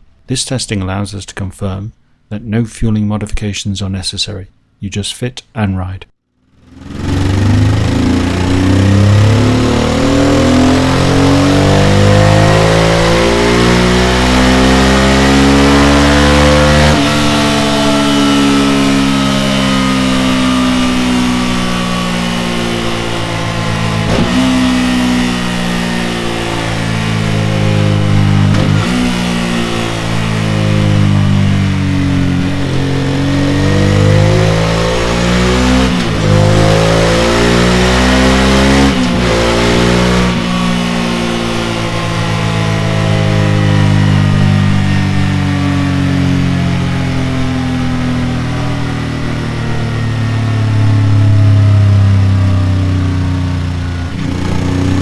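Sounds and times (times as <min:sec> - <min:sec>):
motorcycle engine revving: 0:06.4 - 0:55.0.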